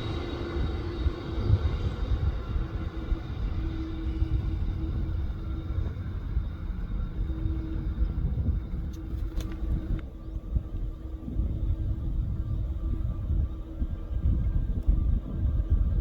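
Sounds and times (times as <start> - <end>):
distant aircraft engines rumbling: 0.0 - 16.0.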